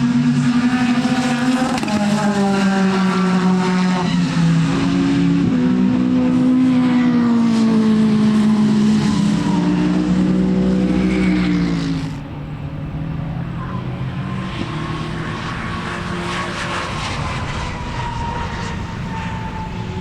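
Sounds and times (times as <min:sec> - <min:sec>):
racing car engine passing: 0:00.0 - 0:20.0
steady engine drone: 0:00.0 - 0:20.0.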